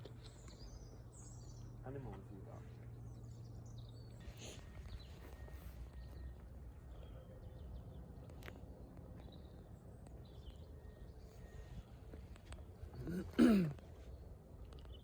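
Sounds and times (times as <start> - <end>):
faint bird chirps: 0.0 - 13.3.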